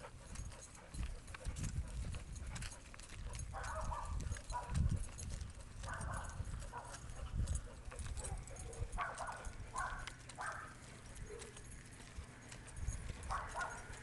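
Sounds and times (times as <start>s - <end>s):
chain leash clinking: 0.0s - 14.0s
dogs panting: 0.0s - 14.0s.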